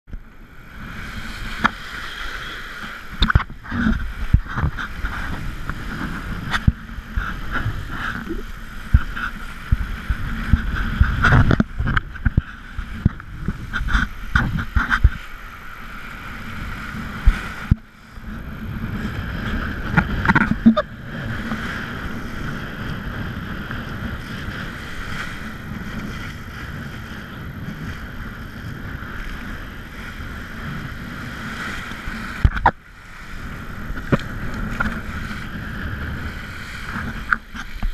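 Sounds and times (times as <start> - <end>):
board slapping water: 0.1 - 37.9.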